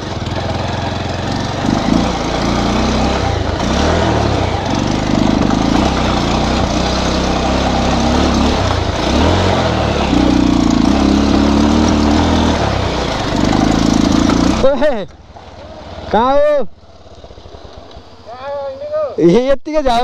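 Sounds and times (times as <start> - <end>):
motorcycle engine revving: 0.0 - 19.2
road rumble: 0.0 - 20.0
wind: 0.0 - 20.0.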